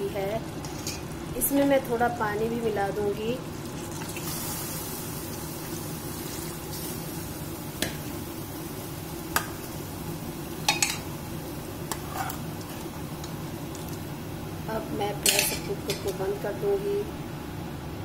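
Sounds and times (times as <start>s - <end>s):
sizzling hiss: 0.0s - 16.9s.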